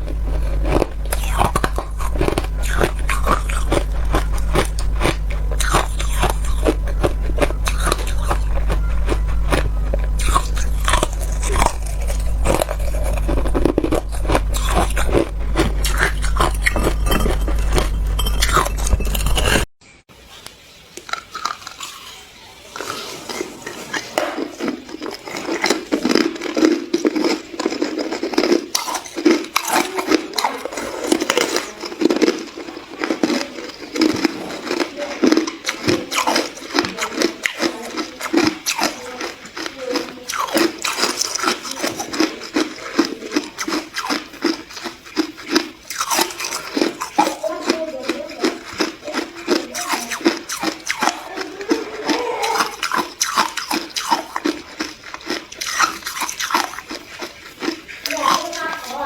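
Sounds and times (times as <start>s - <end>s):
ice being chewed: 0.0s - 19.7s, 21.0s - 59.0s.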